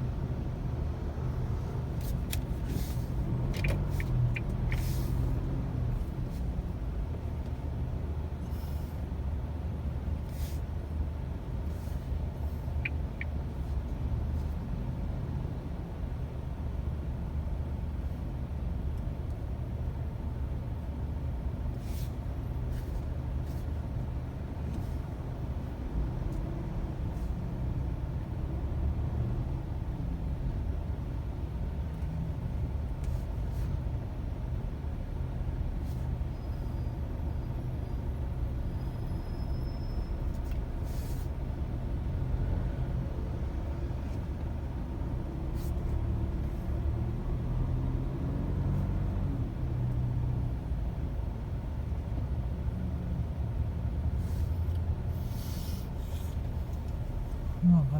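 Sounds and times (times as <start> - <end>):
car engine and tyres rumbling: 0.0 - 57.9.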